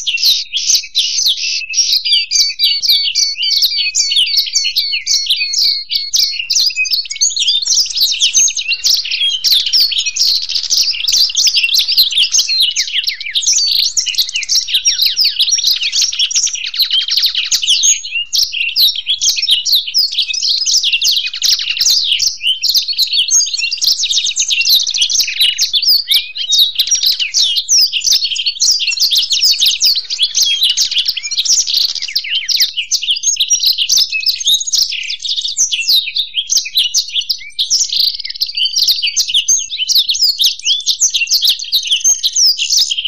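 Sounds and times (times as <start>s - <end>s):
birds twittering and trilling: 0.0s - 43.0s.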